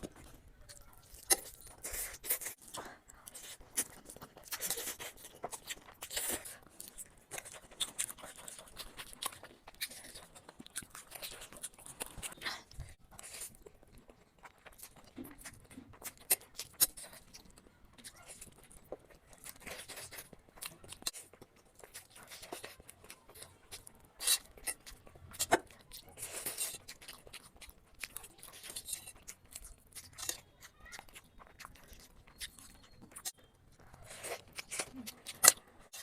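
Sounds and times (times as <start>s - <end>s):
wet chewing and crunching: 0.0s - 36.0s.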